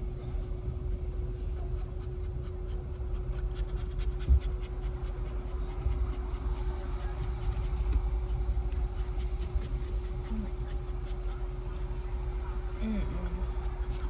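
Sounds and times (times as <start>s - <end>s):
car engine hum inside cabin: 0.0s - 14.0s
dog panting: 0.9s - 14.0s.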